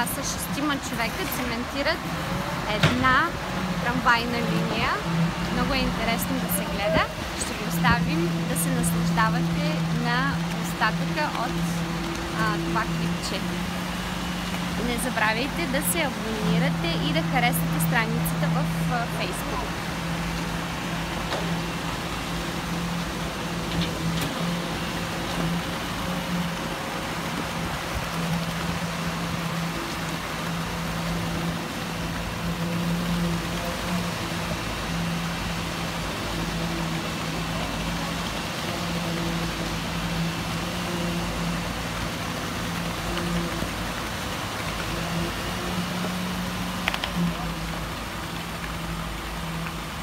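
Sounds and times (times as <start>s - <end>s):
concrete mixer machine hum: 0.0s - 50.0s
constant rushing noise: 0.0s - 50.0s.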